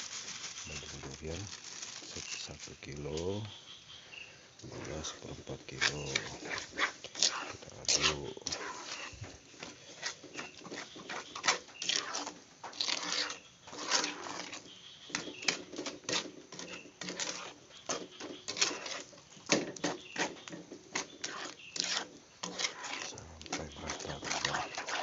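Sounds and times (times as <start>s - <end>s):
utensil scraping cooking pan: 4.7s - 25.0s.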